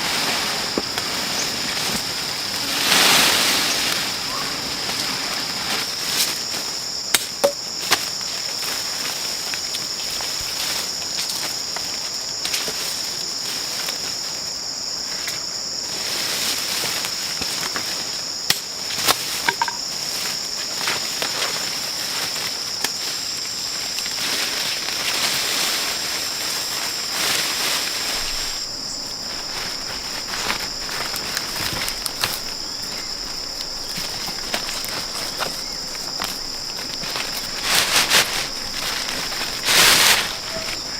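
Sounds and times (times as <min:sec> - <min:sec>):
insects droning chorus: 0:00.0 - 0:40.9.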